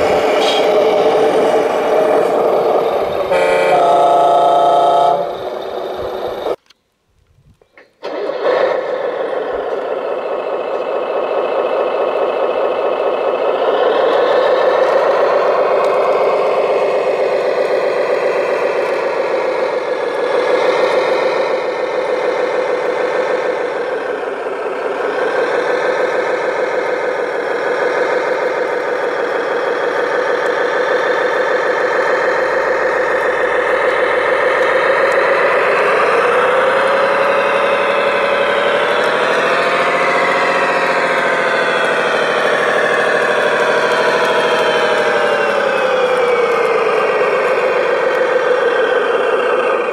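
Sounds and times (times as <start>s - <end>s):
model diesel engine sound: 0.0s - 6.8s, 7.5s - 49.9s.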